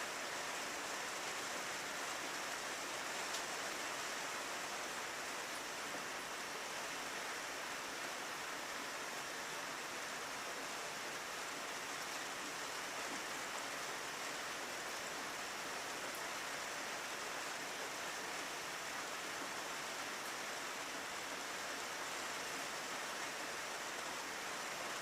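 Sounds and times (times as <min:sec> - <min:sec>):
rain on a window: 0:00.0 - 0:25.0.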